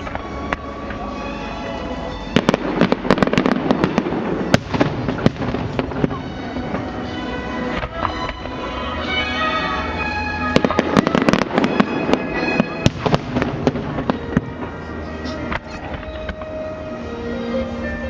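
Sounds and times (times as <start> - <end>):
fireworks cracking and popping: 0.0 - 1.3, 2.2 - 9.1, 10.0 - 16.7
show music: 0.0 - 18.0.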